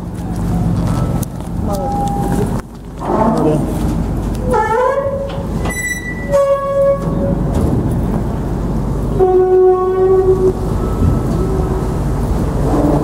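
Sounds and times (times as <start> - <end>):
low rumble of engines: 0.0 - 13.0.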